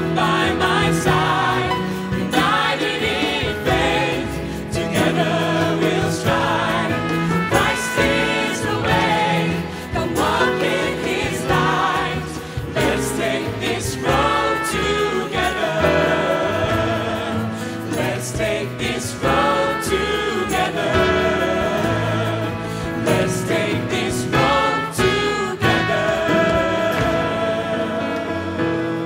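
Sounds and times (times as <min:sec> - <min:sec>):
steady drum beat: 0:00.0 - 0:27.8
voices singing in harmony: 0:00.0 - 0:29.0.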